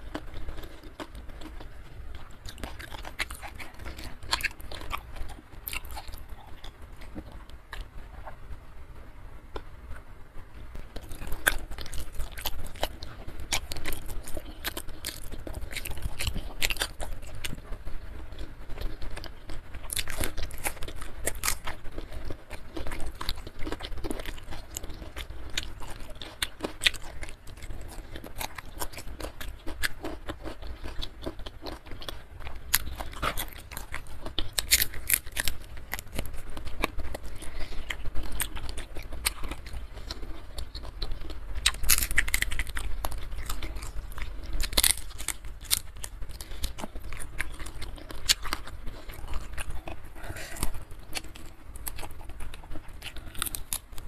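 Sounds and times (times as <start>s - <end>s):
wet chewing: 0.0s - 8.4s, 10.8s - 54.0s
crunchy chewing clicks: 0.0s - 8.6s, 9.5s - 54.0s.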